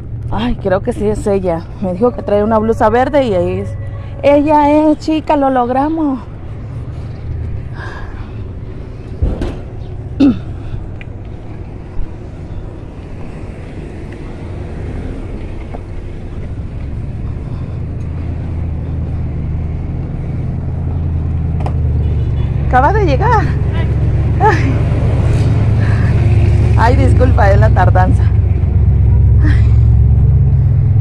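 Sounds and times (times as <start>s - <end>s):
cars passing: 0.0s - 31.0s
low traffic rumble: 0.0s - 31.0s.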